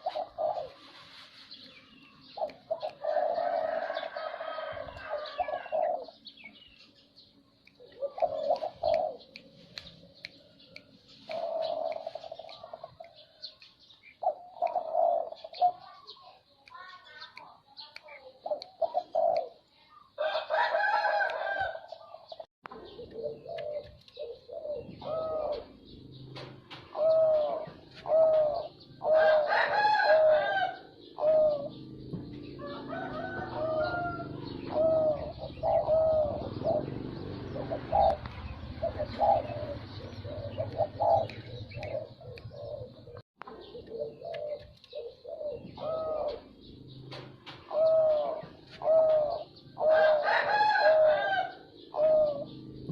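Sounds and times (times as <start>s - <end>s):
dove cooing: 0.0s - 1.2s, 2.2s - 6.6s, 7.8s - 16.2s, 18.4s - 52.9s.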